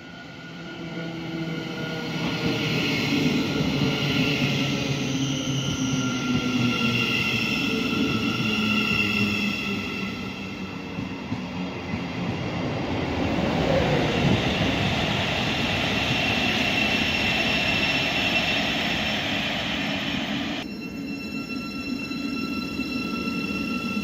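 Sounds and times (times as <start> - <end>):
train wheels rushing on rail: 0.0 - 20.7.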